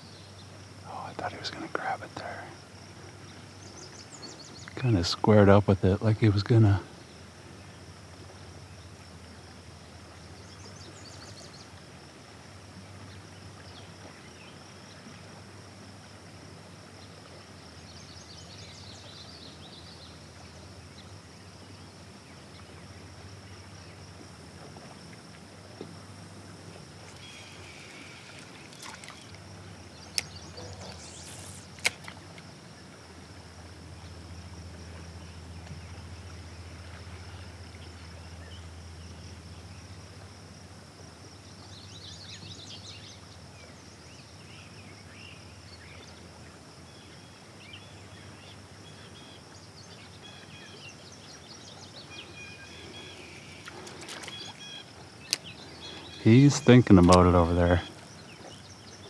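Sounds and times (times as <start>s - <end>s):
low hum and hiss: 0.0s - 59.0s.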